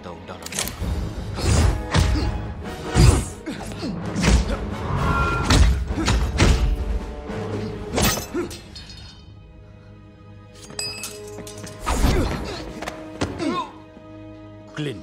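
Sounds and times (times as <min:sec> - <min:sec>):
film score music: 0:00.0 - 0:15.0.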